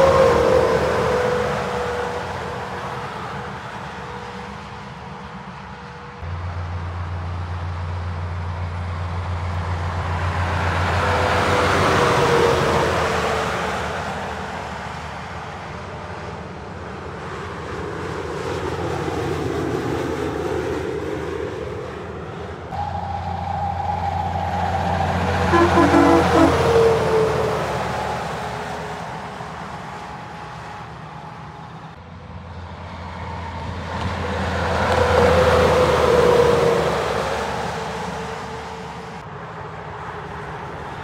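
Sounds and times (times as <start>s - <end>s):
trucks passing on motorway: 0.0s - 41.0s.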